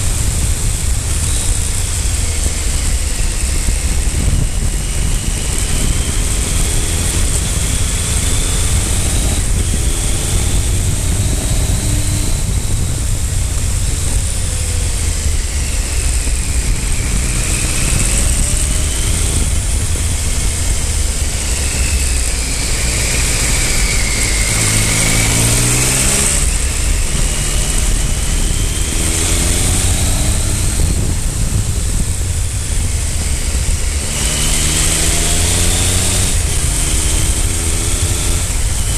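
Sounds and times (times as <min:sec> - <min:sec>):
motorcycle engine revving through gears: 0:00.0 - 0:38.9
wind noise: 0:00.0 - 0:38.9.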